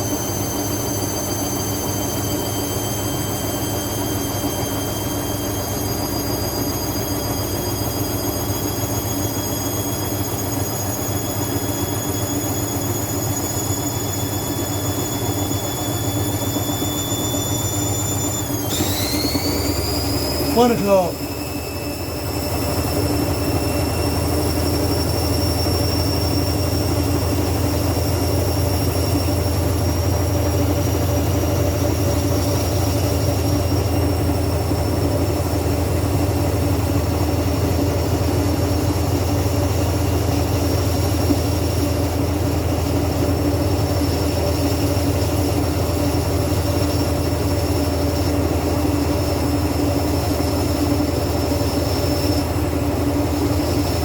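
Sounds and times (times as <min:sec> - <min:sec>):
faint high whine: 0:00.0 - 0:54.0
washing machine humming: 0:00.0 - 0:54.0.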